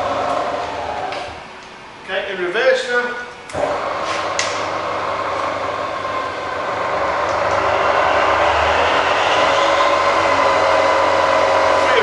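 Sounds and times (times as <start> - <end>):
milling machine hum: 0.0 - 2.0, 3.4 - 12.0.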